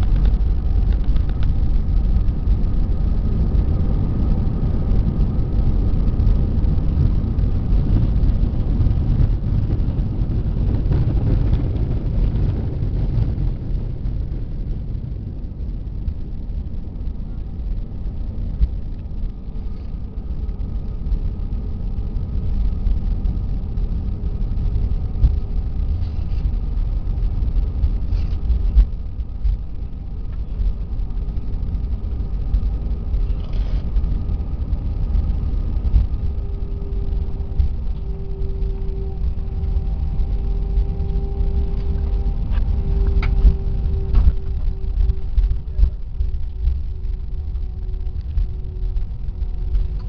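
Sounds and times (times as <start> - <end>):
faint jet engine whine: 0.0 - 50.0
low rumble of engines and wheels: 0.0 - 50.0.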